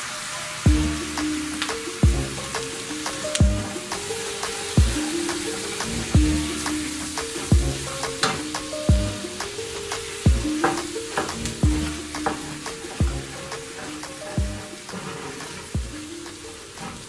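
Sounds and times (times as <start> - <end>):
vegetables sizzling in a frying pan: 0.0 - 17.0
music with deep thumping beat: 0.7 - 15.0, 15.7 - 16.3
wooden spoon stirring and scraping: 0.8 - 17.0.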